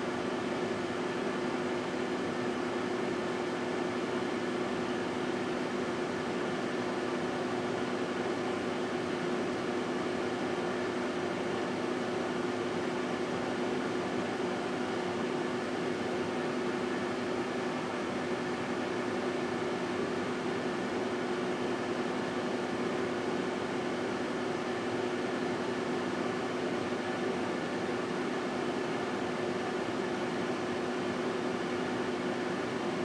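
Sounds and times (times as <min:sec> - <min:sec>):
microwave oven humming: 0:00.0 - 0:33.0.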